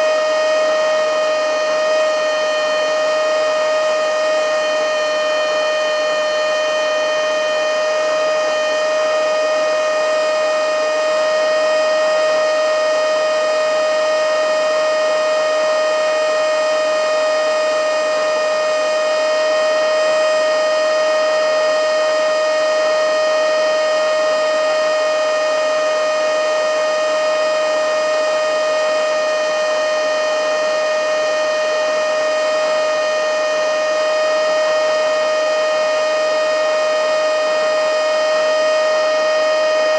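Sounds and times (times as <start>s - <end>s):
mini vacuum cleaner whine: 0.0s - 39.9s.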